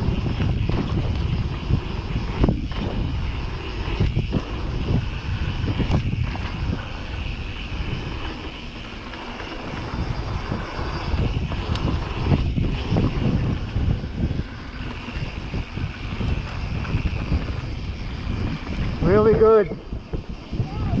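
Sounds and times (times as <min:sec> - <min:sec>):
bike thumping over bumps: 0:00.0 - 0:19.0
tyres rolling over dirt: 0:00.0 - 0:21.0
wind buffeting microphone: 0:00.0 - 0:21.0.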